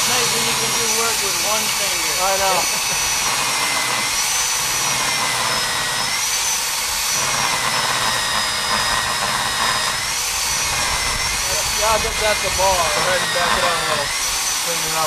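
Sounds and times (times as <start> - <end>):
core drill motor whining: 0.0 - 15.0.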